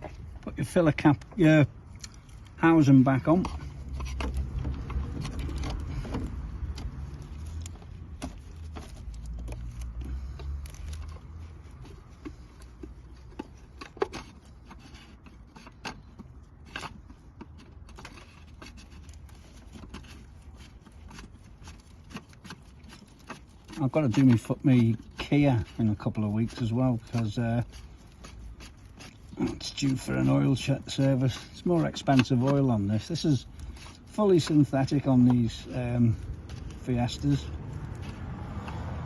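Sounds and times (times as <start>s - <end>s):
tools clicking on car engine: 1.0s - 39.0s.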